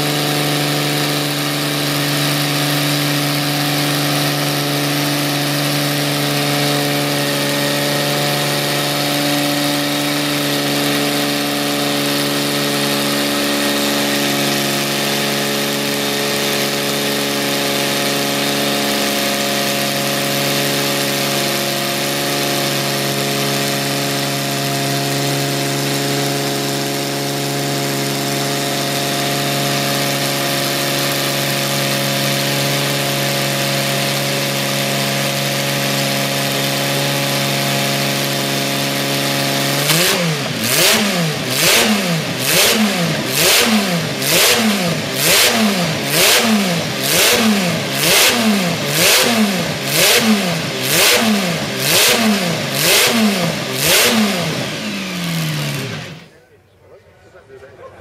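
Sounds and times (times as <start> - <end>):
racing car engine revving: 0.0 - 56.4.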